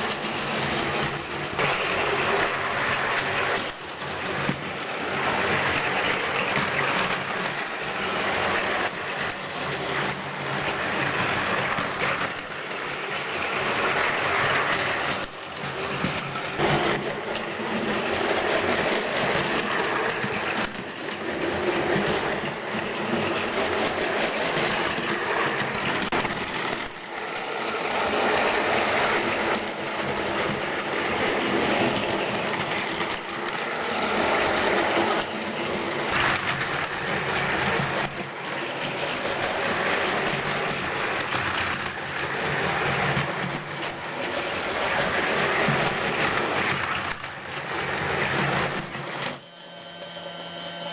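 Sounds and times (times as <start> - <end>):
toy train wheel clatter: 0.0 - 50.1
toy train motor whir: 0.0 - 50.9.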